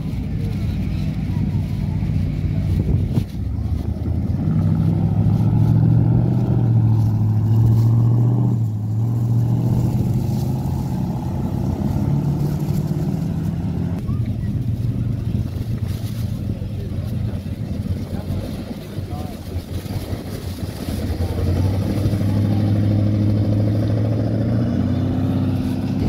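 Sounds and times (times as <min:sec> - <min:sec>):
car engines running: 0:00.0 - 0:26.0.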